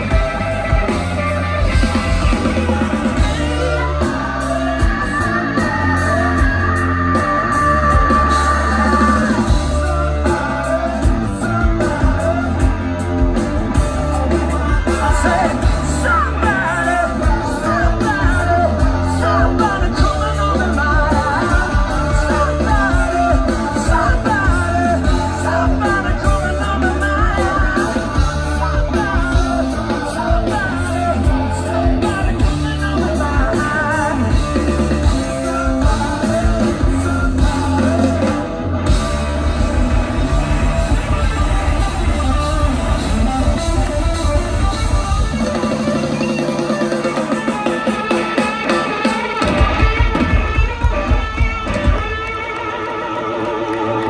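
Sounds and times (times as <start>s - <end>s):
man singing: 0.0s - 51.2s
drum kit: 0.0s - 52.8s
bass guitar: 0.0s - 54.0s
electric guitar: 0.0s - 54.0s.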